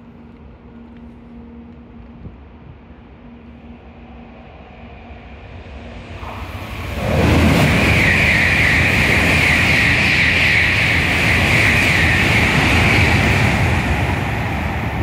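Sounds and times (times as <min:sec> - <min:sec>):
high-speed train rushing past: 0:00.0 - 0:15.0.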